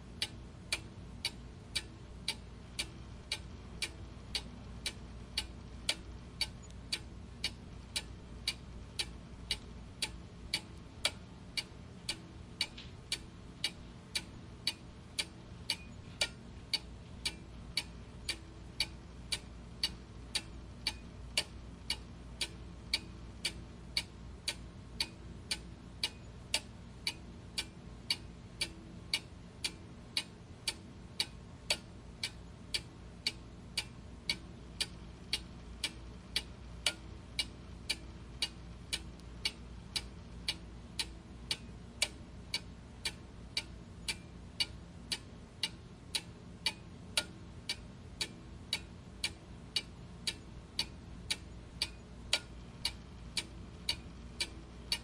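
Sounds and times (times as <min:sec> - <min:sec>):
faint low hum: 0:00.0 - 0:55.0
clock ticking: 0:00.2 - 0:55.0.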